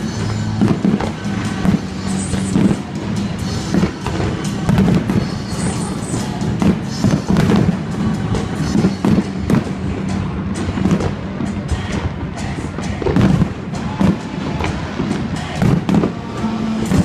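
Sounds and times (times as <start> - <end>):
fireworks bangs and crackles: 0.0 - 17.0
loud music: 0.0 - 17.0.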